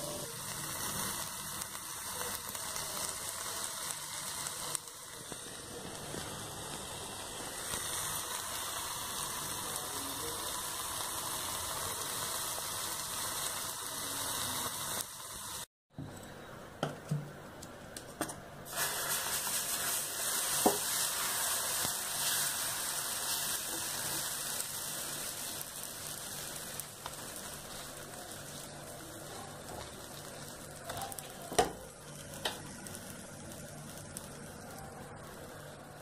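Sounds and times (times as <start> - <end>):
batter sizzling on a griddle: 0.0 - 15.7, 18.6 - 36.0.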